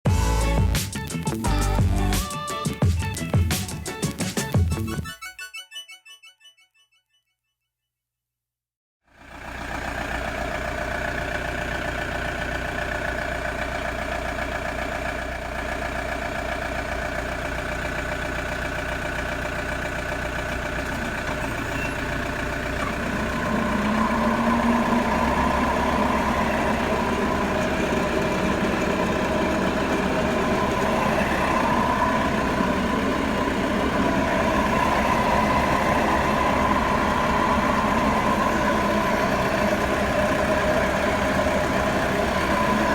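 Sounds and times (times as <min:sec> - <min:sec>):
van droning while driving: 0:00.1 - 0:05.0, 0:09.2 - 0:42.9.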